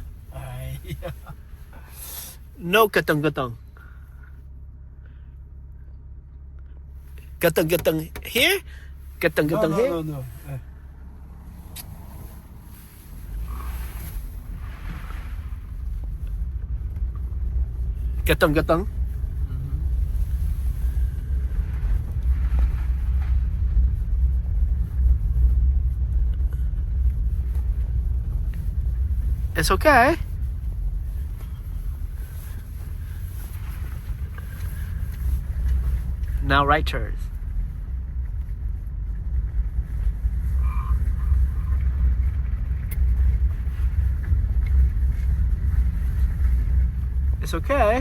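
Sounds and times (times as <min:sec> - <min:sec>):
road and engine rumble in car: 0:00.0 - 0:48.0.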